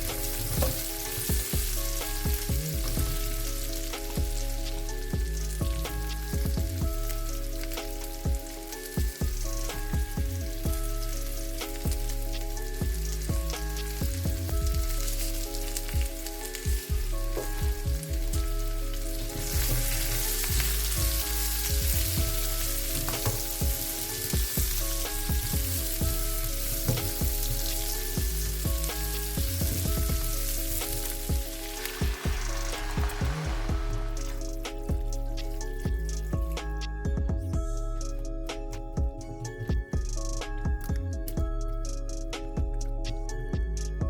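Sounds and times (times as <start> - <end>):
food sizzling in a pan: 0.0 - 36.6
background music with bass: 0.0 - 44.0.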